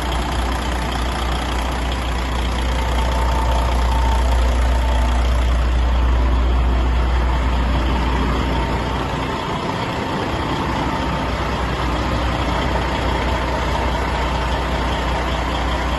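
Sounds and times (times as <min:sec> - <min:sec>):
truck diesel engine idling: 0:00.0 - 0:15.9.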